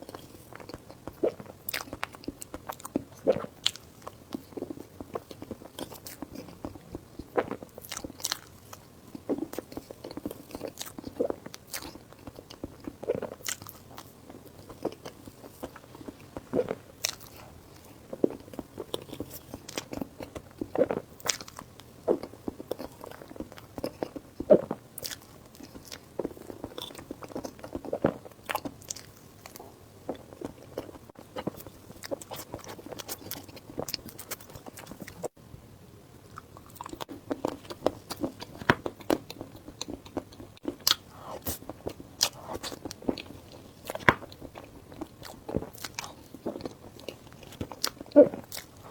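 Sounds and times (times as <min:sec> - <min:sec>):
crunchy bites and chewing: 0:07.4 - 0:35.3, 0:36.6 - 0:48.9.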